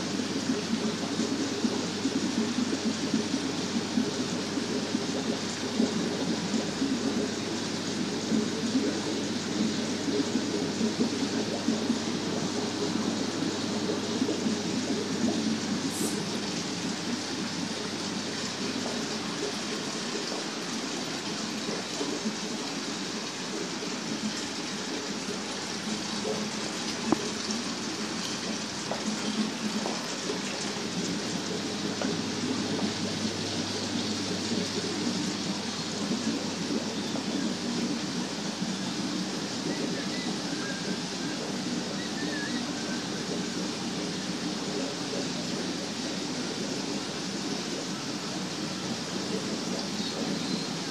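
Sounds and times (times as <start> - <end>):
bubbling running water: 0.0 - 50.9.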